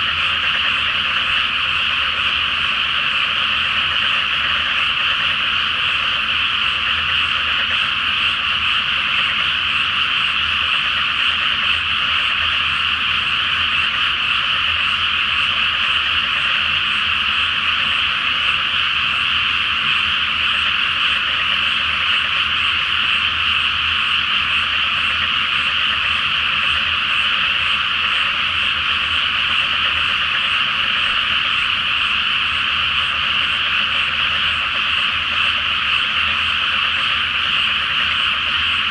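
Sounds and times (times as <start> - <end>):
chorus of frogs croaking: 0.0 - 38.9.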